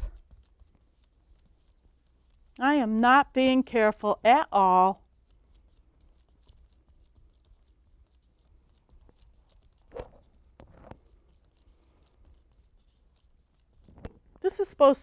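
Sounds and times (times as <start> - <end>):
paintbrush scratching on paper: 0.0 - 15.0.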